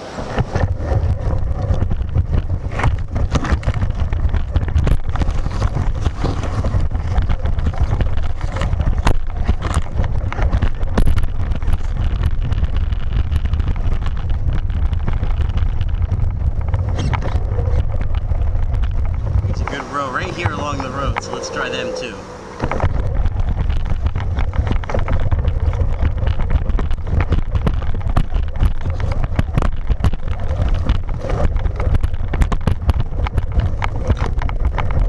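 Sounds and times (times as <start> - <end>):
vibration and wind rumble: 0.0 - 35.0.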